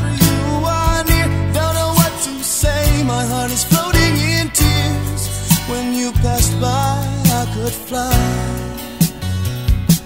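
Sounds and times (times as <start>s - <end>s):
pop ballad music: 0.0s - 10.0s.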